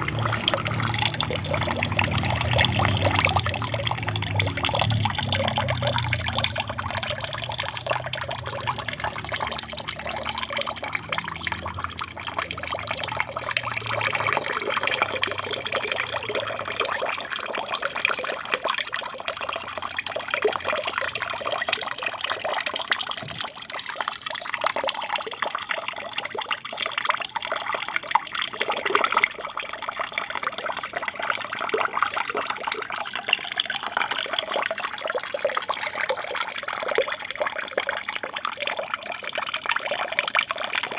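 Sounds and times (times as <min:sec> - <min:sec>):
water splashing and trickling: 0:00.0 - 0:40.9.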